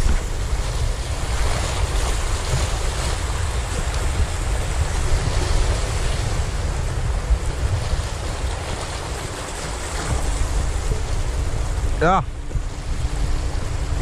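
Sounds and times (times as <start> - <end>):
waves splashing on rocky shore: 0.0 - 14.0
wind buffeting microphone: 0.0 - 14.0.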